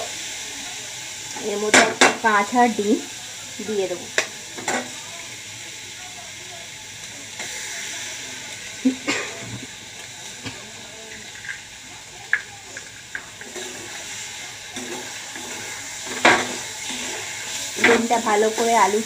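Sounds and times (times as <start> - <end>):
egg crackling in hot oil: 0.0 - 19.0
potatoes sizzling in oil: 0.0 - 19.0.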